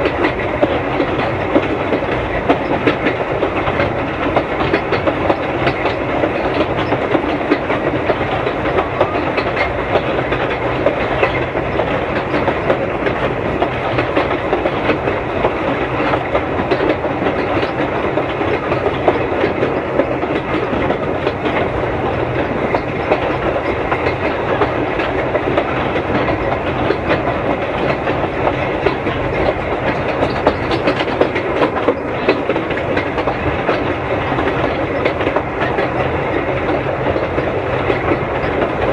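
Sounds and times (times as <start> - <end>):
steam engine working: 0.0 - 38.9
wheels clattering on rails: 0.0 - 38.9.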